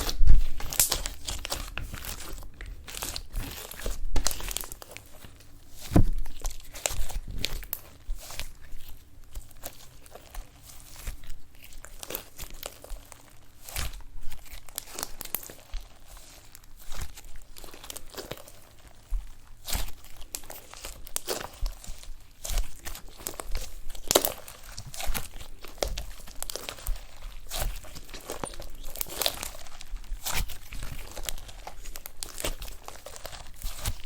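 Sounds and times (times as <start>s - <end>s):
slime crackles and pops: 0.0s - 34.0s
slime squished by hand: 0.0s - 34.0s.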